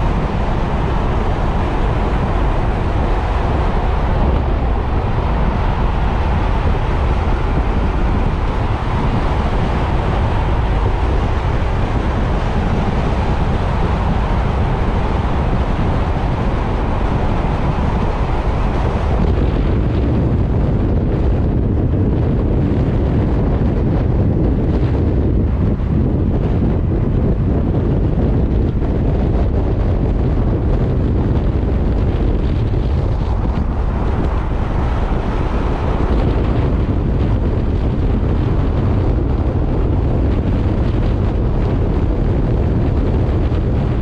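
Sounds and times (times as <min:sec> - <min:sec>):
tyre and road noise: 0:00.0 - 0:44.0
wind rushing over microphone: 0:00.0 - 0:44.0.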